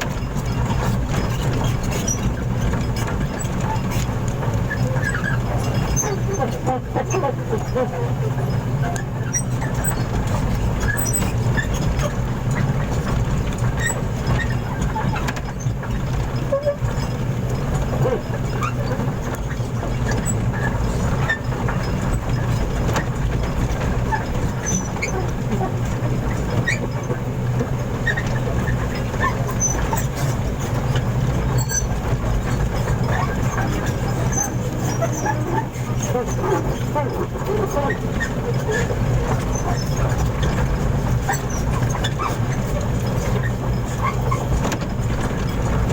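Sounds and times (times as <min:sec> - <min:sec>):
heavy vehicle engine humming: 0:00.0 - 0:45.9.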